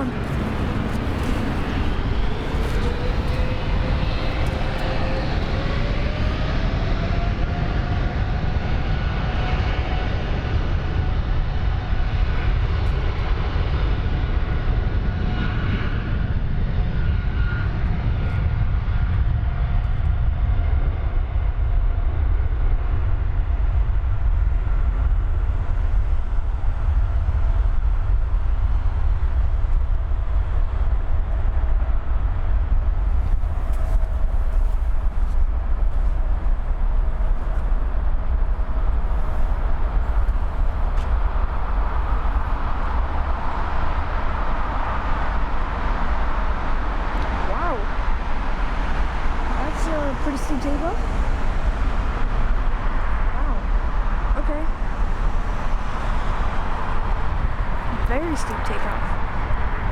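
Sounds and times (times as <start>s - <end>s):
deep engine rumble: 0.0s - 59.9s
jet engine whine: 0.0s - 59.9s.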